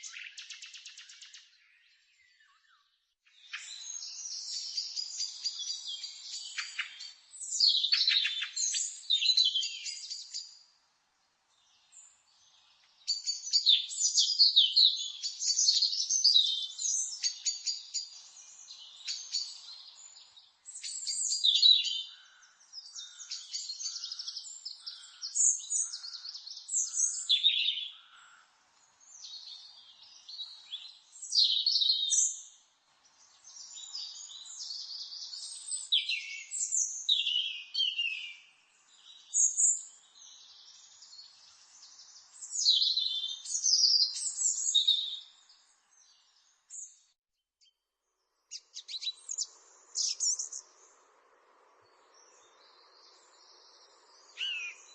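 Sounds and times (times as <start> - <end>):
low evenly spaced bird notes: 0.0 - 47.2, 48.0 - 54.9
songbirds twittering: 0.0 - 54.9.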